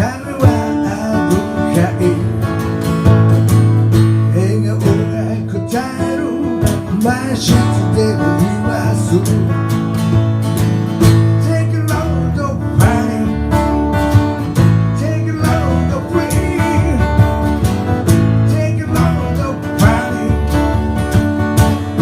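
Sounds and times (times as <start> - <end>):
guitar strumming: 0.0 - 22.0
held bass notes: 0.0 - 22.0.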